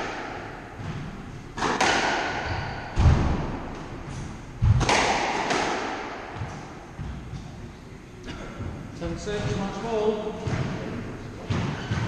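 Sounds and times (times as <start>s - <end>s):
squash ball hitting rackets and walls: 0.0s - 7.6s, 8.6s - 12.0s.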